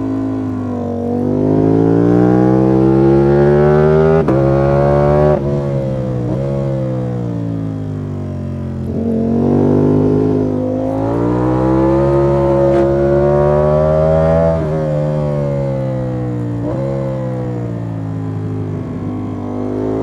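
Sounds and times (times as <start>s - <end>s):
motorcycle engine revving under load: 0.0s - 20.0s.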